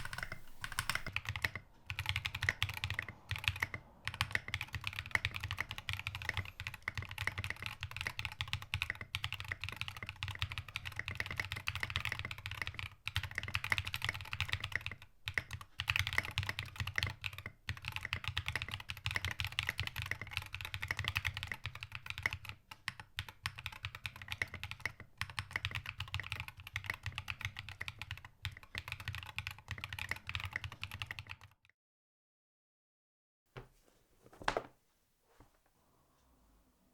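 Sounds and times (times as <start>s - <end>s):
fast typing on mechanical keyboard: 0.0s - 31.6s.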